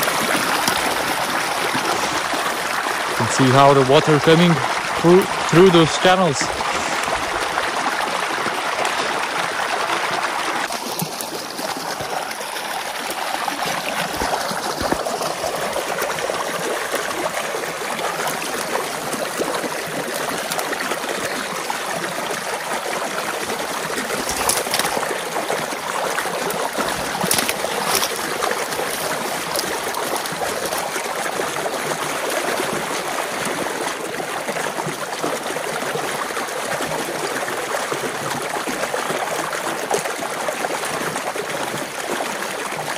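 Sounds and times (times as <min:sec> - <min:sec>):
water rushing and gurgling: 0:00.0 - 0:42.9.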